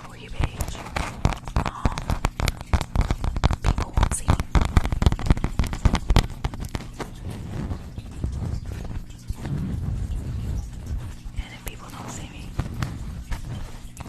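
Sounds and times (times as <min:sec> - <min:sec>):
close crackling clicks: 0:00.0 - 0:14.0.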